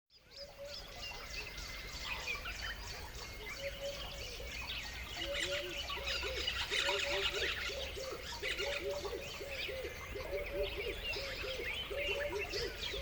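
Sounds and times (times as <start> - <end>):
birds chirping: 0.1 - 13.0
lower repeated bird calls: 0.2 - 13.0.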